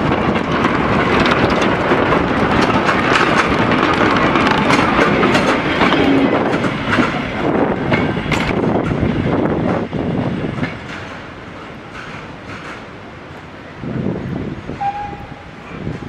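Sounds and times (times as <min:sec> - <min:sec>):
wheels clattering over rail joints: 0:00.0 - 0:13.0
train rushing past: 0:00.0 - 0:16.0.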